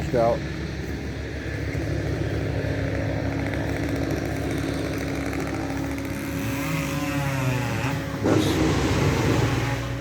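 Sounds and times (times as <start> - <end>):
power equipment engine running: 0.0 - 10.0.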